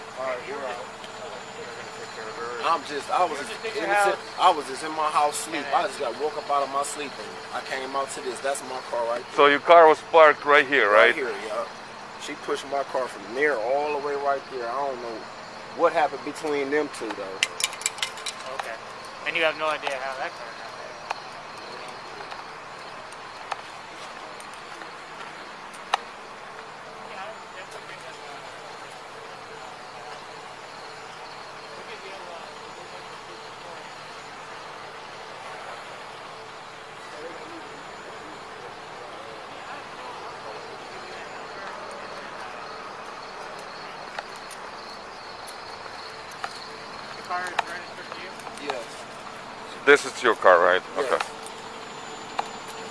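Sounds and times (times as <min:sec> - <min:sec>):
insects chirring: 0:00.0 - 0:52.9
outdoor street hiss: 0:00.0 - 0:52.9.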